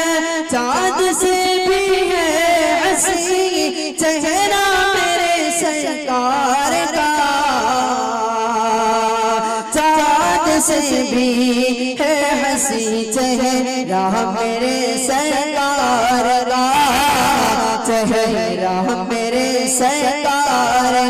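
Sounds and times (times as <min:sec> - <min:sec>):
man singing devotional song: 0:00.0 - 0:21.0.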